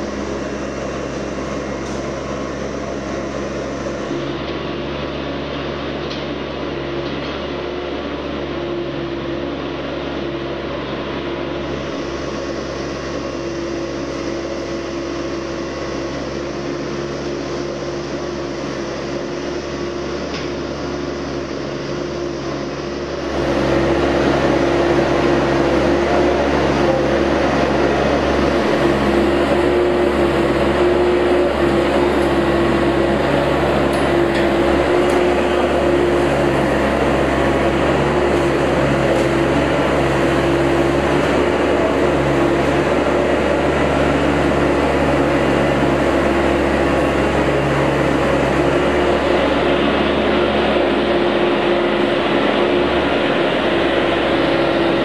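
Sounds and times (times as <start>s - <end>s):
excavator engine and hydraulics drone: 0.0s - 55.0s.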